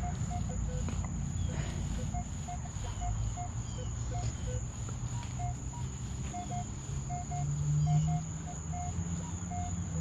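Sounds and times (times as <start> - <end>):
metal detector beeps: 0.0 - 1.0, 1.9 - 10.0
high insect drone: 0.0 - 10.0.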